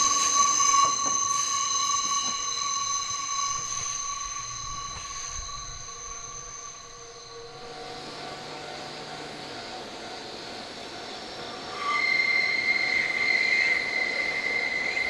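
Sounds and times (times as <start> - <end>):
train wheels squealing on rails: 0.0 - 15.0.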